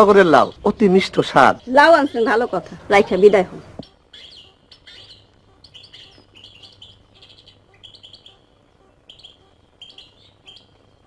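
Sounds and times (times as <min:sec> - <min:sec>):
faint low hum: 0:00.0 - 0:11.0
small birds chirping: 0:00.0 - 0:11.0.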